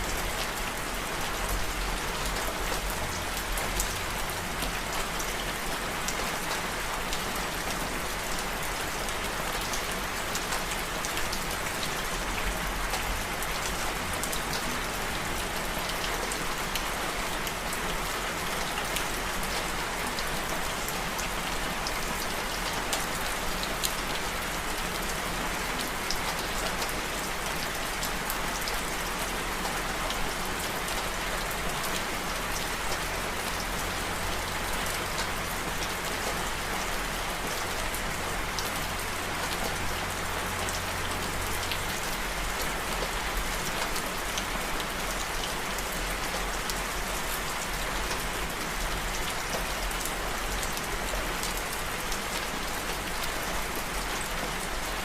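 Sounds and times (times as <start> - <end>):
steady rain hiss: 0.0 - 55.0
raindrops pattering on a surface: 0.1 - 55.0.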